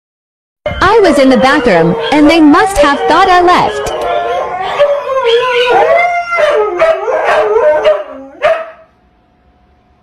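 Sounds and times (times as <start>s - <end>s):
husky howling: 0.8s - 8.9s.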